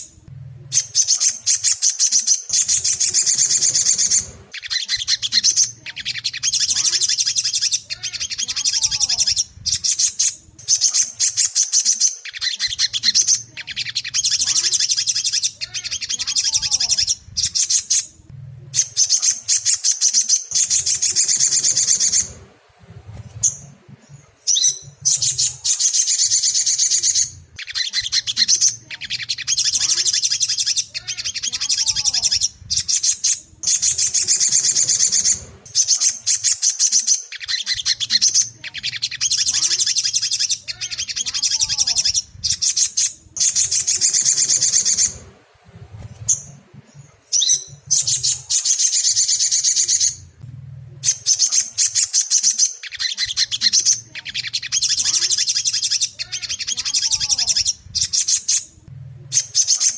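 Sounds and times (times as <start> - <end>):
low steady hum: 0.0 - 1.8, 2.5 - 11.5, 12.6 - 19.8, 20.5 - 36.7, 37.7 - 52.2, 53.0 - 59.9
songbird chattering song: 0.0 - 59.9.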